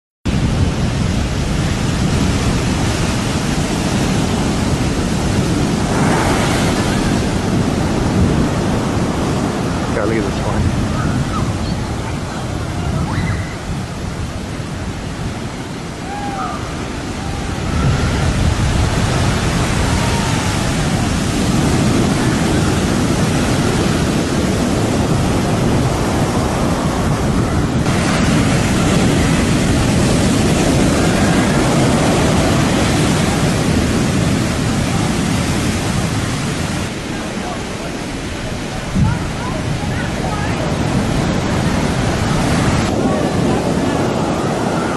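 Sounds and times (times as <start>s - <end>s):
ocean waves crashing: 0.3s - 44.9s.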